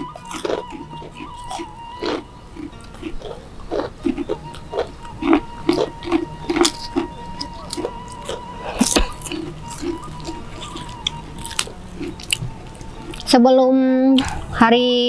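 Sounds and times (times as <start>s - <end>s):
crisp food crunches: 0.0s - 13.4s
people chewing and lip smacking: 0.0s - 13.4s, 14.1s - 14.6s.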